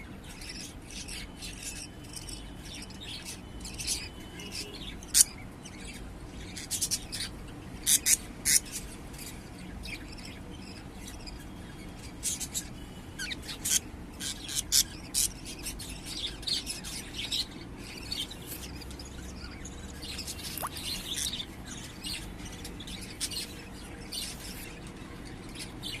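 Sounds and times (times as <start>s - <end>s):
budgies chirping: 0.2s - 26.0s.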